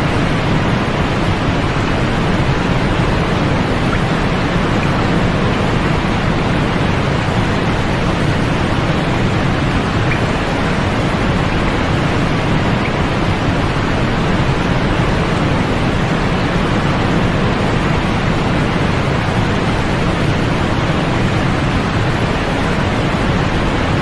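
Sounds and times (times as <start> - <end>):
muffled white noise hiss: 0.0 - 24.0.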